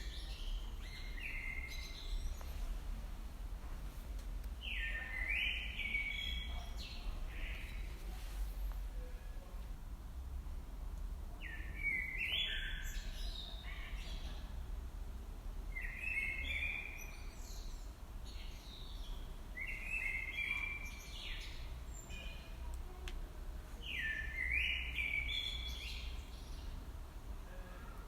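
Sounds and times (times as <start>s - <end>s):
songbird chirping: 0.0s - 9.5s, 11.3s - 14.7s, 15.7s - 28.0s.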